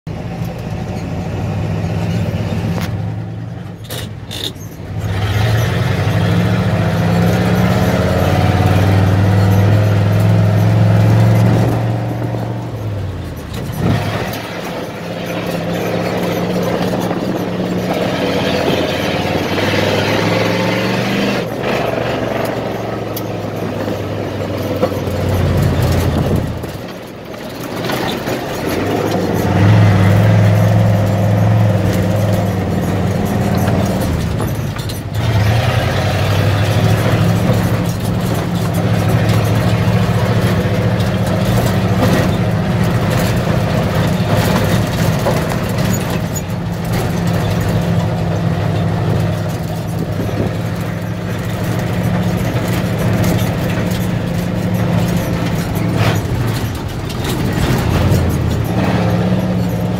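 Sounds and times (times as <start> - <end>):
truck engine running: 0.1 - 59.9.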